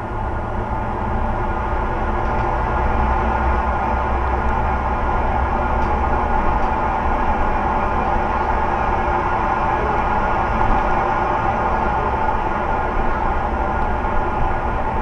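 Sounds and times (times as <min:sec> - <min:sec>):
bus diesel engine drone: 0:00.0 - 0:15.0.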